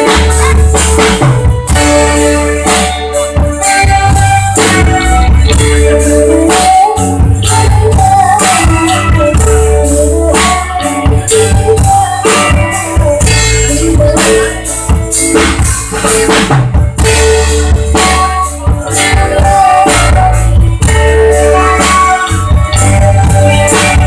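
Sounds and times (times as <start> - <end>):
drum kit with snare and bass drum: 0.0 - 24.0
heavy steady bass: 0.0 - 24.0
sustained melody line: 0.0 - 24.0.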